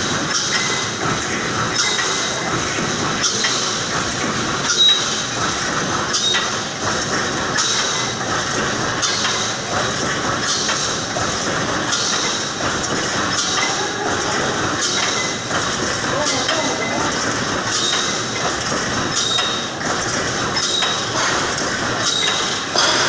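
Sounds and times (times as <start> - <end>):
welding machine running: 0.0 - 23.0.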